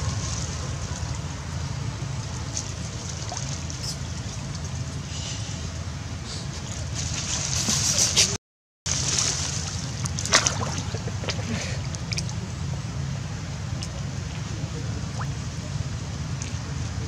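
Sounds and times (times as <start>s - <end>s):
water sloshing and splashing: 0.0s - 5.1s, 6.5s - 17.0s
steady low hum: 0.0s - 17.0s.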